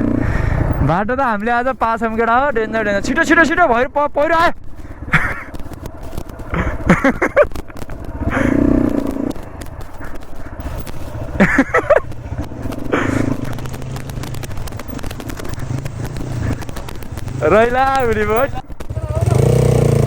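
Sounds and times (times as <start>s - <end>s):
gusty wind noise: 0.0s - 20.0s
motorcycle engine droning: 0.0s - 20.0s
voices: 0.8s - 20.0s.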